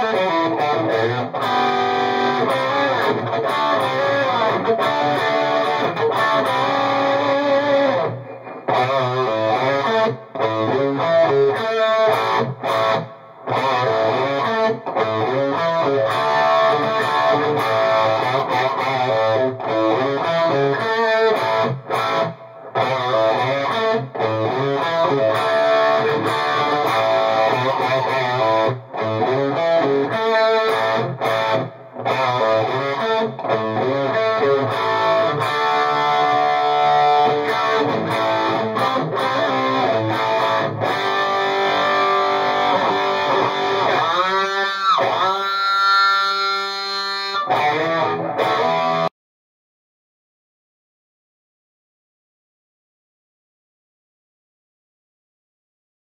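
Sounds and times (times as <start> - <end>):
distorted electric guitar: 0.0 - 49.1.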